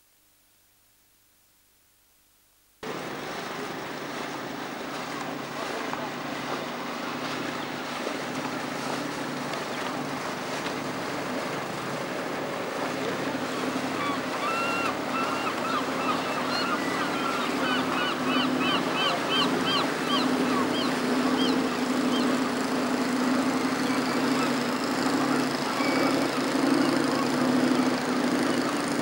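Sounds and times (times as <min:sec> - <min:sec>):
low motor hum: 0:02.8 - 0:29.0
water noise: 0:02.8 - 0:29.0
wind: 0:02.8 - 0:29.0.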